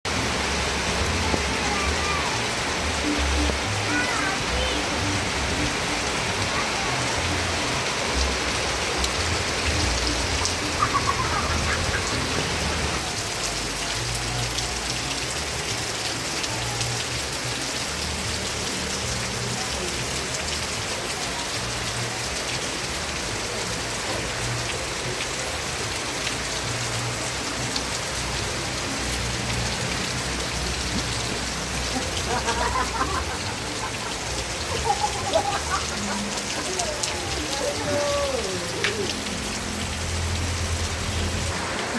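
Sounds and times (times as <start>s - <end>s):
steady rain falling: 0.1s - 41.9s.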